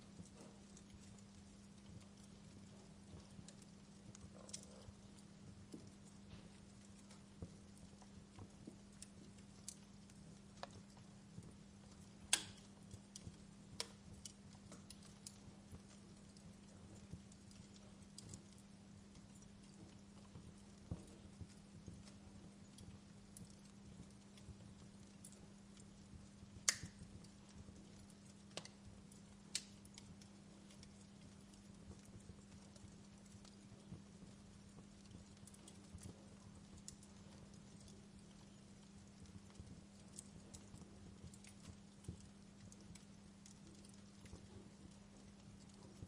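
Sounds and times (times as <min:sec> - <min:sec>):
faint low hum: 0:00.0 - 0:46.0
wood fire crackling: 0:00.0 - 0:46.0.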